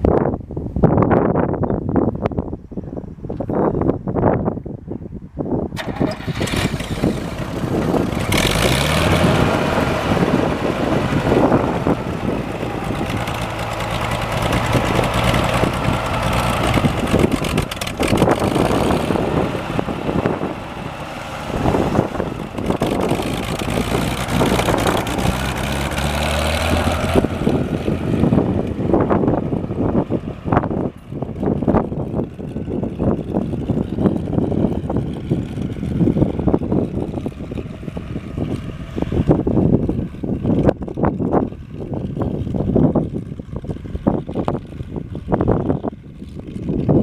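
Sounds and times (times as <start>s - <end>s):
tractor engine cranking and running: 5.8s - 47.0s.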